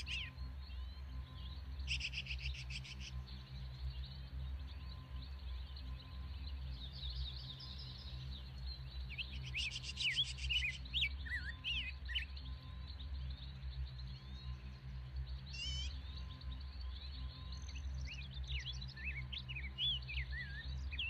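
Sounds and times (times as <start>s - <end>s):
birds chirping and twittering: 0.0s - 21.0s
low steady hum: 0.0s - 21.0s.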